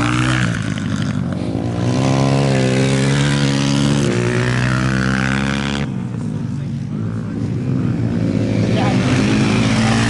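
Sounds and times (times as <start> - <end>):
racing motorcycle engine accelerating: 0.0 - 10.0.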